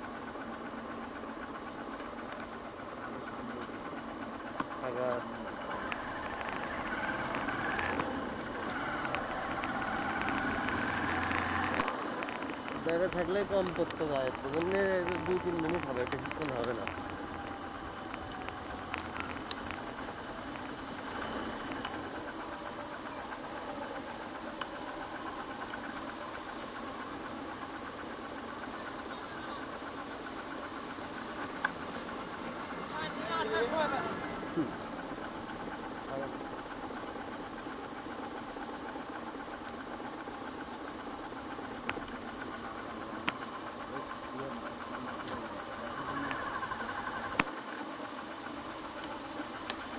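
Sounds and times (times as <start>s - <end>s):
motorcycle engine running: 0.0s - 49.9s
sharp ticks: 0.1s - 49.9s.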